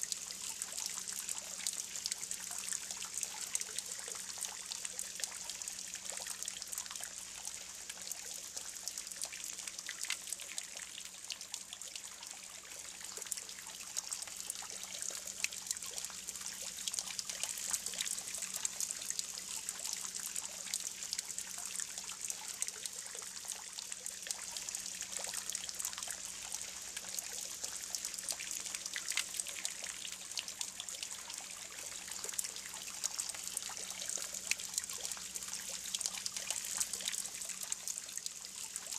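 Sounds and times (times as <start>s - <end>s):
water trickling into pool: 0.0s - 38.9s.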